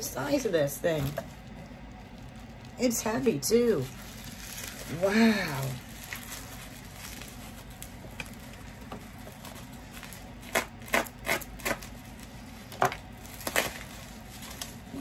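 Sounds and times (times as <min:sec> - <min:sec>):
bubble wrap crackling: 0:00.0 - 0:15.0
faint room hum: 0:00.0 - 0:15.0.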